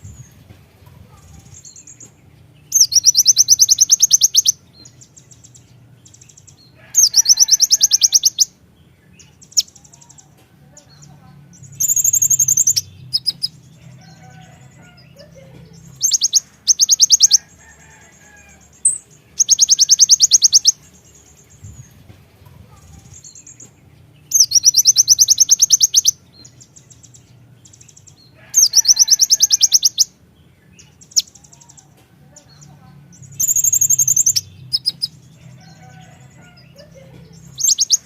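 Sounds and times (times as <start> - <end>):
bird trilling: 0.0 - 38.0.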